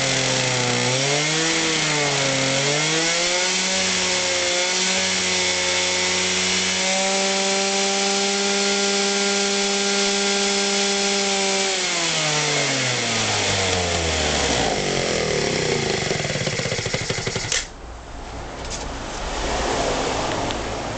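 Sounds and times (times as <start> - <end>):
scooter engine revving: 0.0 - 17.7.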